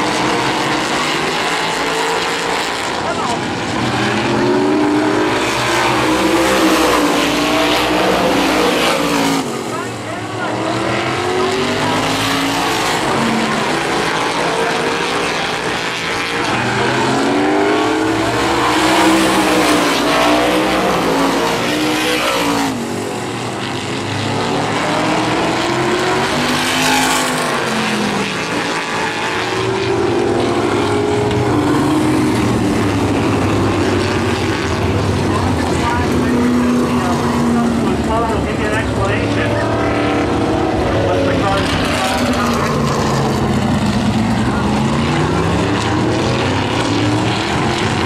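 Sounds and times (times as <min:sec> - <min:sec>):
race car engines passing by: 0:00.0 - 0:48.0.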